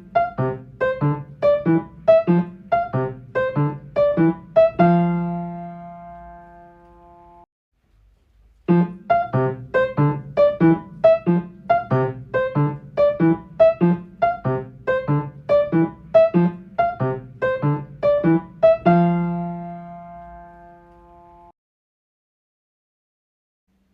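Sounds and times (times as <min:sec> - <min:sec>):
bouncy piano pattern: 0:00.0 - 0:07.4, 0:08.6 - 0:21.5.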